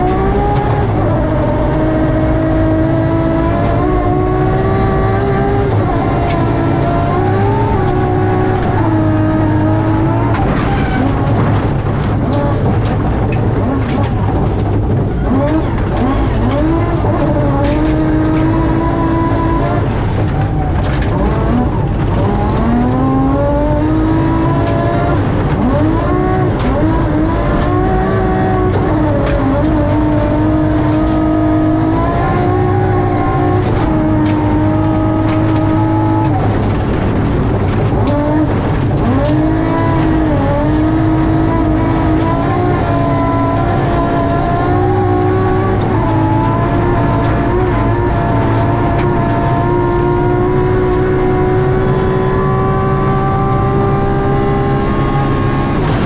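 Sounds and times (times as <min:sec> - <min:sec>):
car engine at hard throttle: 0:00.0 - 0:56.0.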